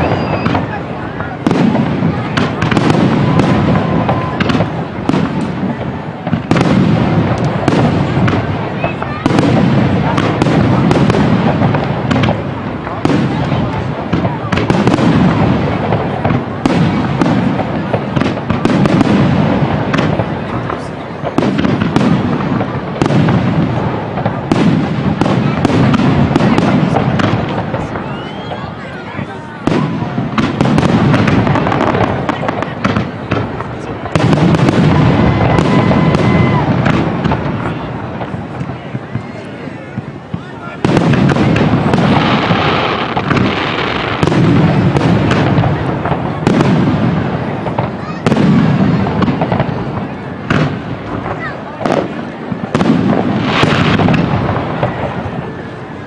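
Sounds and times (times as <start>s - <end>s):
low rumble of firework bursts: 0.0s - 56.0s
sharp firework cracks: 0.0s - 56.0s.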